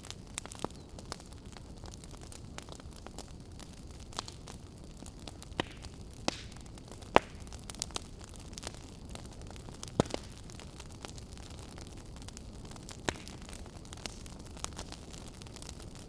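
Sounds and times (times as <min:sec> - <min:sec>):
fire crackling and popping: 0:00.0 - 0:16.0
fire rumbling and hissing: 0:00.0 - 0:16.0.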